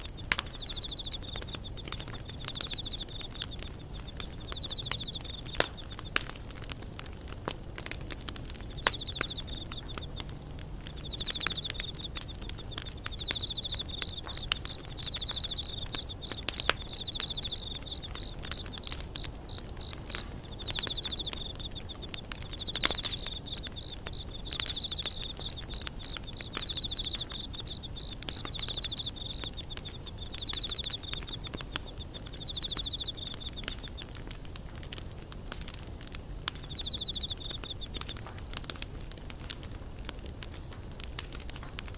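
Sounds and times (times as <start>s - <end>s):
campfire crackling and popping: 0.0s - 41.9s
insects trilling: 0.0s - 41.9s.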